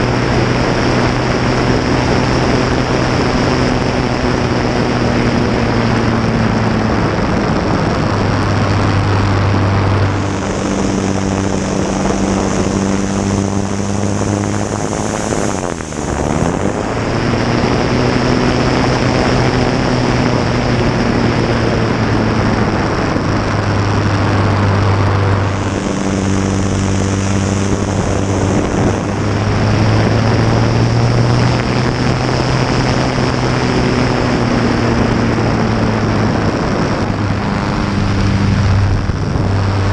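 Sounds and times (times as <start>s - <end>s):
propeller aircraft engine: 0.0s - 39.9s
rushing air: 0.0s - 39.9s.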